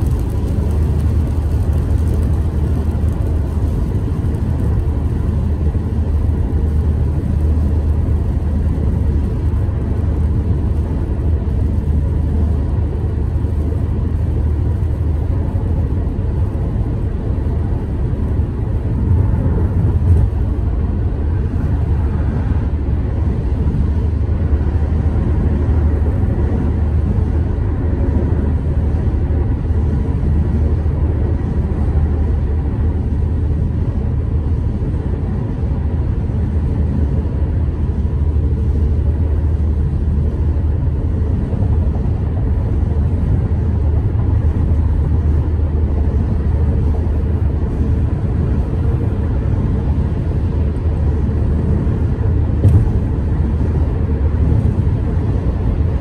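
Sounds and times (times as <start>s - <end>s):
road and tyre noise: 0.0s - 56.0s.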